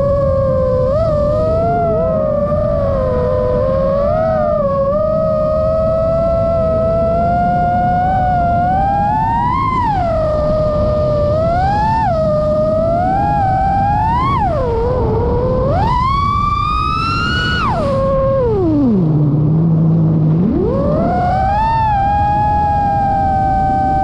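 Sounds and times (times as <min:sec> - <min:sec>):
drone motors whining: 0:00.0 - 0:24.0
low rushing wind: 0:00.0 - 0:24.0.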